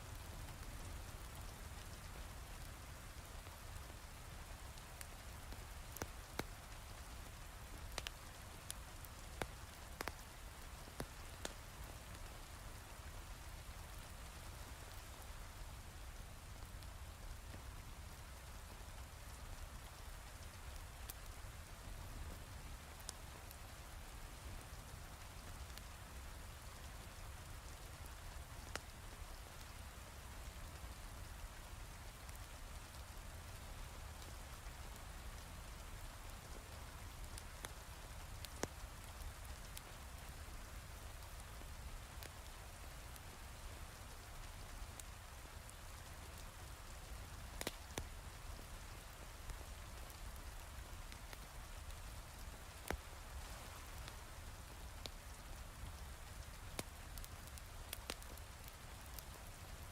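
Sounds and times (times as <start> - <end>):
fireplace fire popping: 0.1 - 12.6, 16.1 - 59.9.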